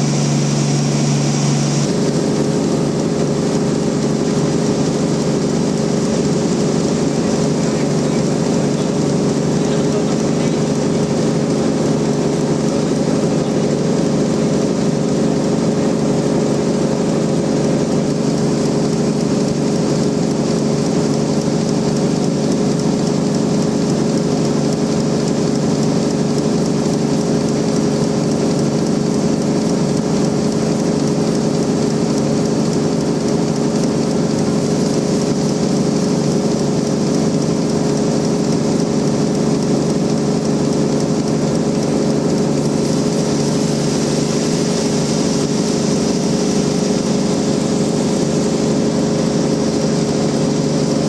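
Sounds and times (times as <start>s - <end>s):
band sawmill running: 0.0s - 51.0s.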